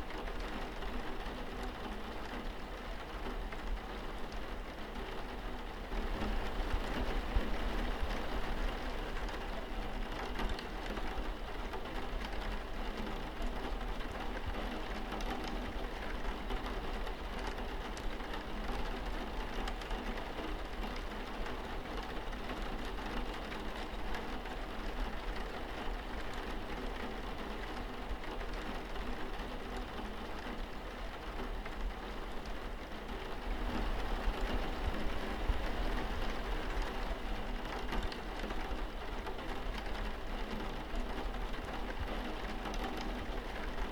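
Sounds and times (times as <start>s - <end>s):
rain falling on a window: 0.0s - 43.9s.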